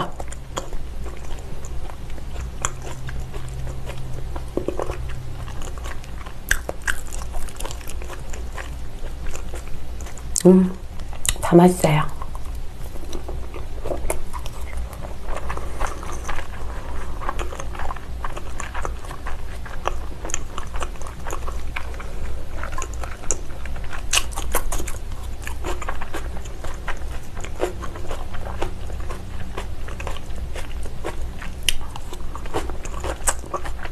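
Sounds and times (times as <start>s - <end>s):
biting leafy salad: 0.0s - 11.4s, 12.1s - 33.9s
close wet chewing: 0.0s - 11.4s, 12.2s - 33.9s
low steady hum: 0.0s - 33.9s.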